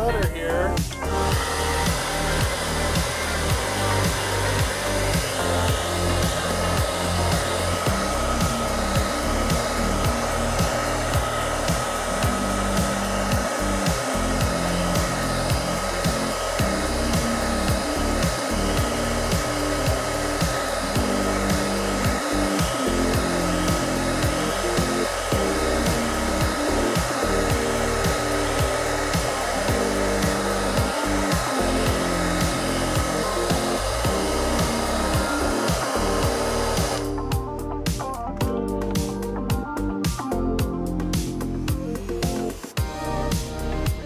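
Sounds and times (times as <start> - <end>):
background music with bass: 0.0 - 44.0
hot-air blower whining: 1.1 - 37.2.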